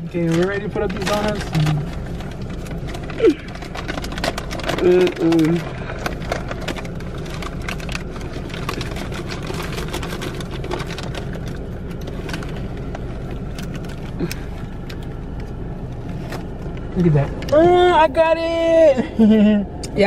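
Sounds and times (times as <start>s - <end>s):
plastic wrappers crinkling: 0.0s - 17.6s
car idling: 0.0s - 20.0s.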